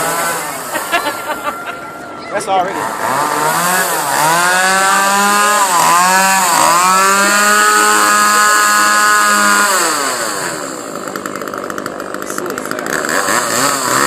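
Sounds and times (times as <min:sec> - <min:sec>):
chainsaw running at fast idle: 0:00.0 - 0:01.2, 0:02.7 - 0:14.0.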